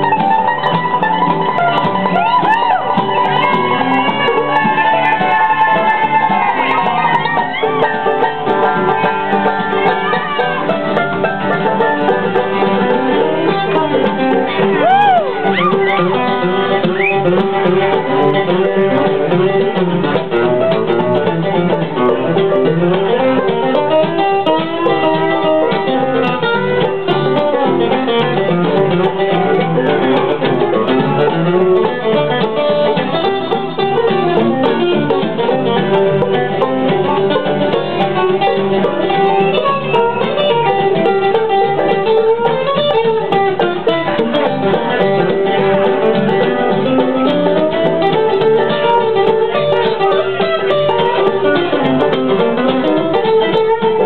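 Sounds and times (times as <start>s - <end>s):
acoustic guitar strumming: 0.0s - 54.0s
acoustic string band playing: 0.0s - 54.0s
plucked-string picking: 0.0s - 54.0s.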